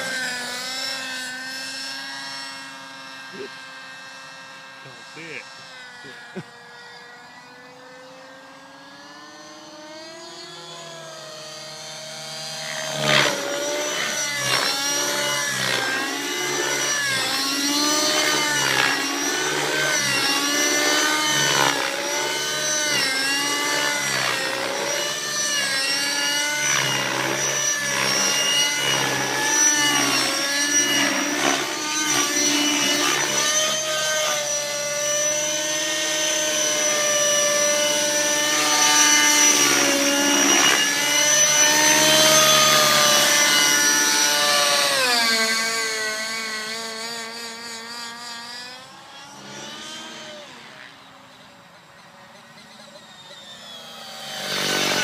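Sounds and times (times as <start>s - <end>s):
model helicopter engine and rotors: 0.0s - 55.0s.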